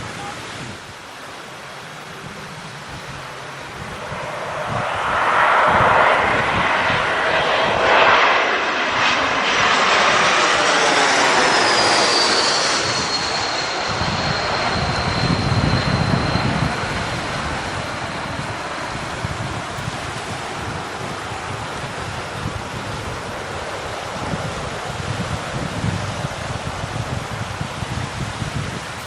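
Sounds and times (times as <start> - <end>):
jet airliner engine noise: 0.0 - 29.0
jet engine high whine: 0.0 - 29.0
wind gusts on microphone: 0.0 - 29.0.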